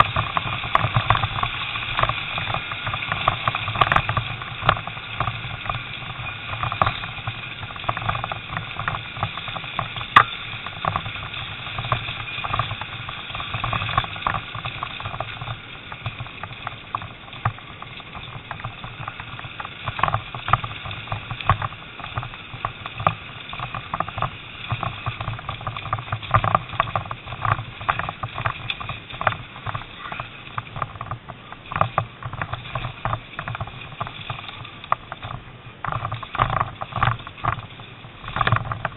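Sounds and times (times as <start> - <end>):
knocks and rattles: 0.0 - 38.9
motorcycle engine running: 0.0 - 38.9.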